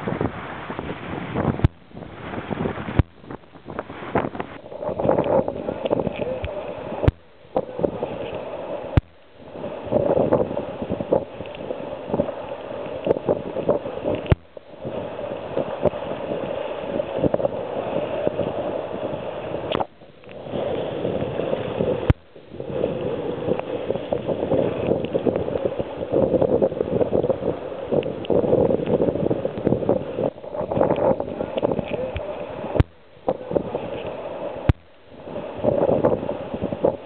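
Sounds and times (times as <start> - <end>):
water rushing along a hull: 0.0 - 37.0
wind buffeting the microphone: 0.0 - 37.0.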